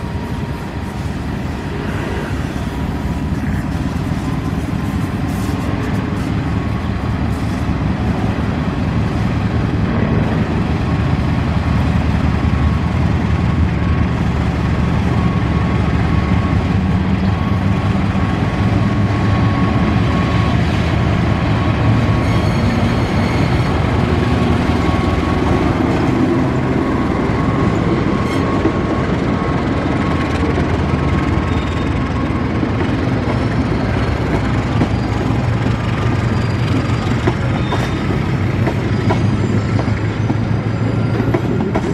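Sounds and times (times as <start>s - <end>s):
locomotive engine running: 0.0s - 41.9s.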